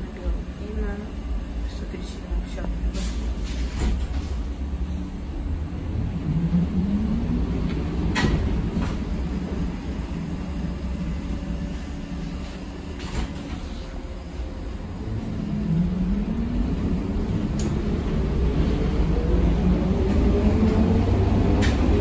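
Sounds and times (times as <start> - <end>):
trolleybus rumbling: 0.0 - 22.0.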